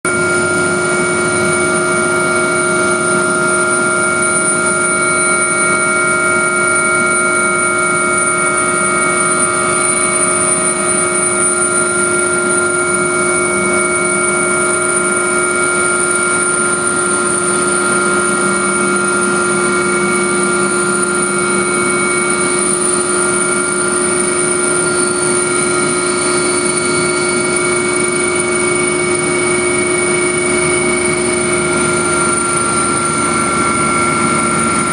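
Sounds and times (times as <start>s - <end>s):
helicopter engine and rotor rush: 0.0s - 34.9s
turbine whine: 0.0s - 34.9s.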